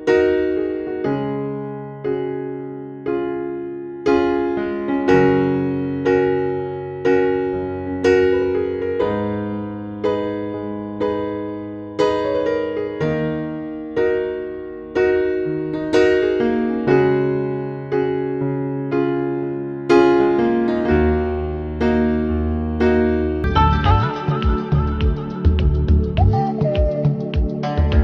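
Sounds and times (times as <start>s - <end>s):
electric piano chords: 0.0s - 28.0s.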